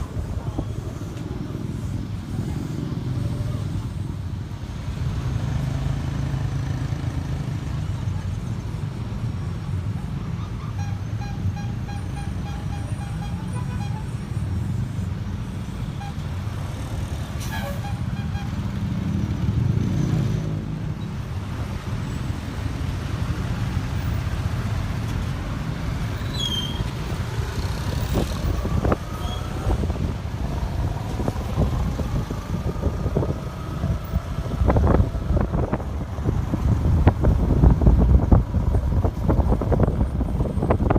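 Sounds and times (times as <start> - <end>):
diesel engine rumble of traffic: 0.0 - 40.9.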